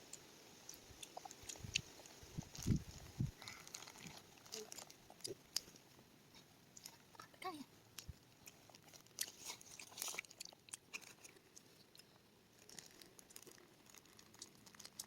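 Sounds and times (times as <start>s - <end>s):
person chewing food: 0.1s - 7.2s, 7.9s - 15.0s.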